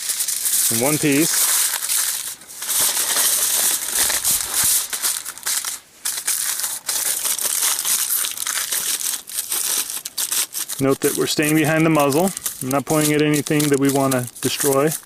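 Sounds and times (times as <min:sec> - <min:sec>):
tin foil crinkling: 0:00.0 - 0:15.0.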